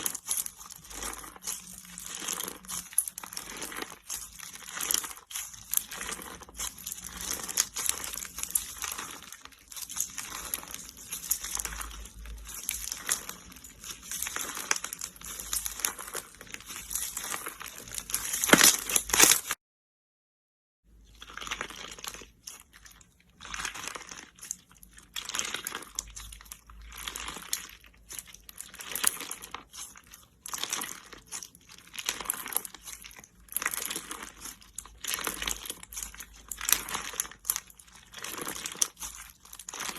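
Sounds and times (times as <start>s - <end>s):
slime crackling and popping: 0.0s - 19.6s, 21.0s - 39.9s.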